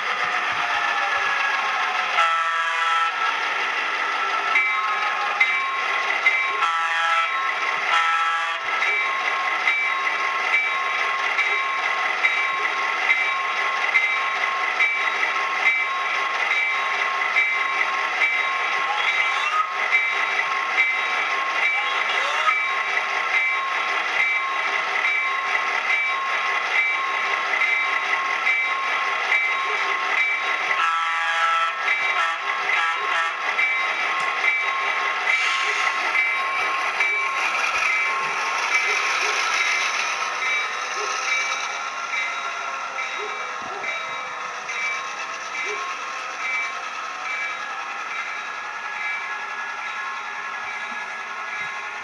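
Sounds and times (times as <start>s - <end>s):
model diesel locomotive running: 0.0s - 52.0s.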